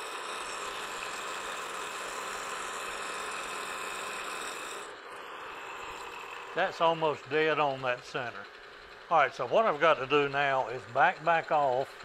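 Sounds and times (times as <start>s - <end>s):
milling machine cutting metal: 0.0s - 12.0s.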